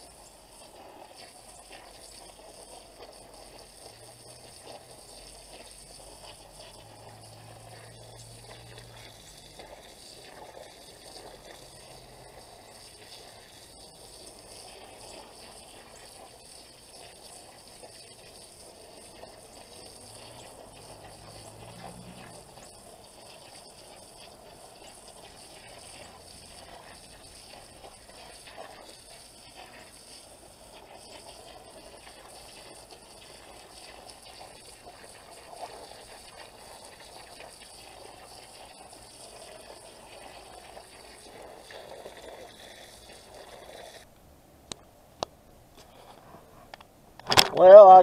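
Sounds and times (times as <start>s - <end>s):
hose water splashing on soil: 0.0s - 44.1s.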